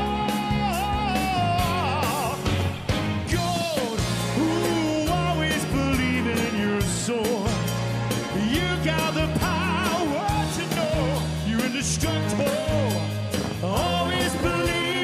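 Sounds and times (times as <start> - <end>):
man singing into microphone: 0.0 - 2.6, 3.2 - 15.0
live pop-rock band playing: 0.0 - 15.0.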